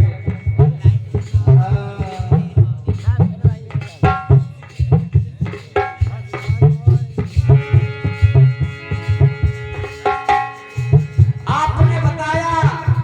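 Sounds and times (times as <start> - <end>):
hand drums: 0.0 - 13.0.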